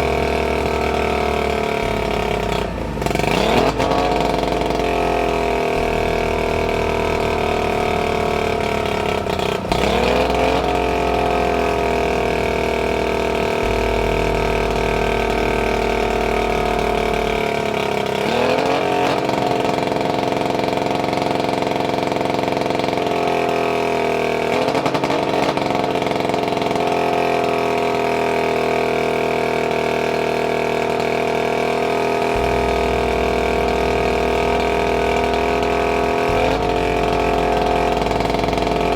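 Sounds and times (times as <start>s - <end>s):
boat motor running: 0.0s - 38.9s.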